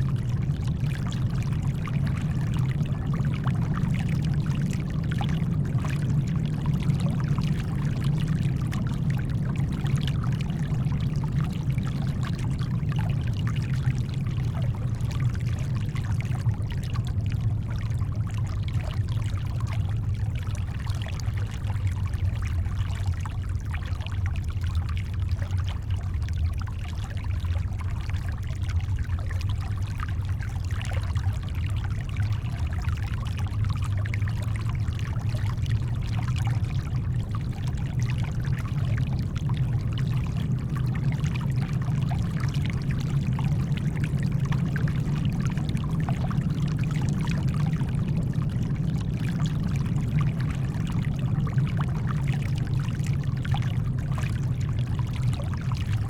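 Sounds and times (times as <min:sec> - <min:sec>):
brown noise rumble: 0:00.0 - 0:56.0
shoreline water trickling: 0:00.0 - 0:56.0.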